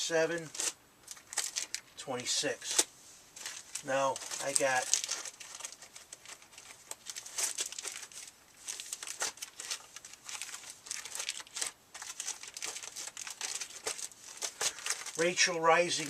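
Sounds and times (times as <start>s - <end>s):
plastic wrapping crinkling: 0.3s - 2.0s, 2.6s - 16.0s.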